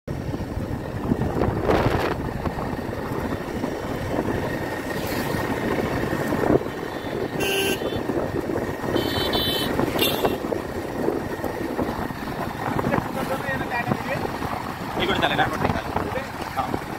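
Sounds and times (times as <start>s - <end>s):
motorcycle engine rumble: 0.1s - 16.9s.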